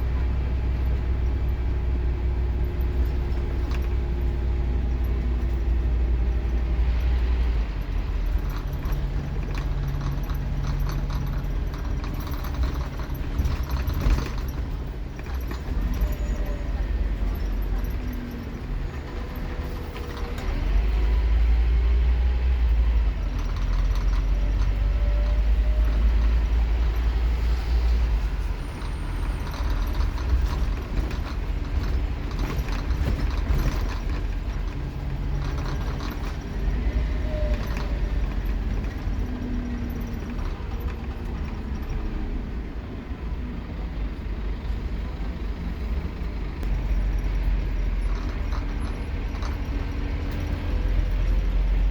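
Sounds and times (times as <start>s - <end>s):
bus diesel engine pulling: 0.0s - 51.9s.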